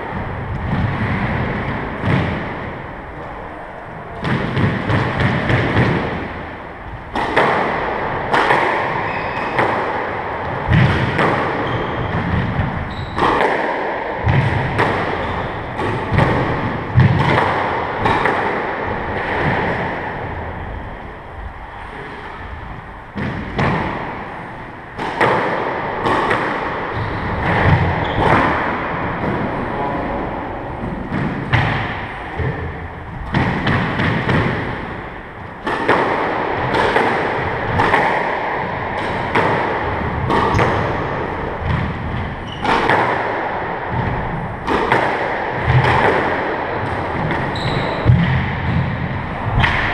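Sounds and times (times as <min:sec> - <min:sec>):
squash ball hits echoing: 0:00.0 - 0:49.9.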